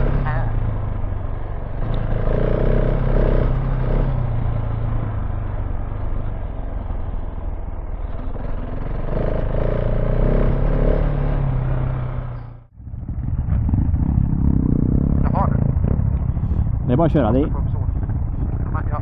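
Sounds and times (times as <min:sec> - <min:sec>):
motorcycle engine running: 0:00.0 - 0:19.0
wind: 0:00.0 - 0:19.0.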